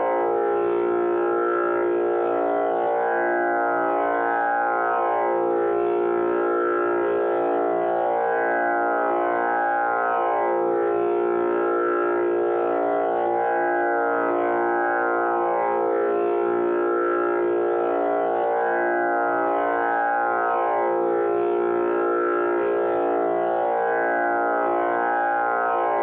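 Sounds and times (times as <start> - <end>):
tanpura drone: 0.0 - 26.0.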